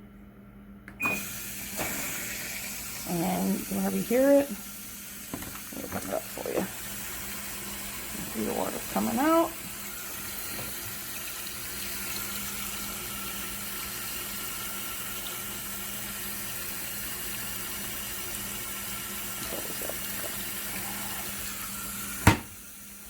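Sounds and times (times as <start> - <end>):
water pouring into tub: 1.2 - 22.3.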